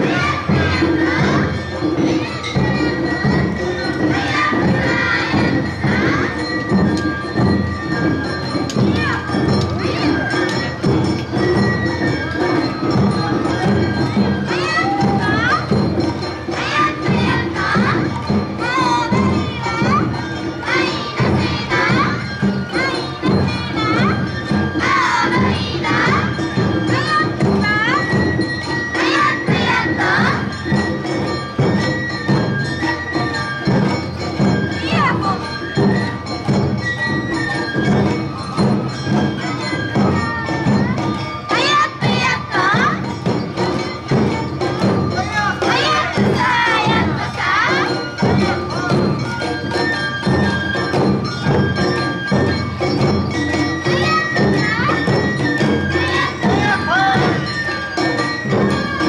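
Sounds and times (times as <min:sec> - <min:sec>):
drums beating: 0:00.0 - 0:59.0
high bell: 0:00.0 - 0:59.0
voices calling out: 0:00.0 - 0:59.0.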